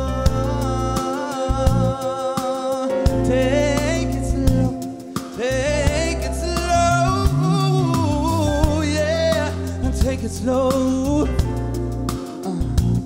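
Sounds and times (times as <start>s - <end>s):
bass and percussion backing track: 0.0s - 13.0s.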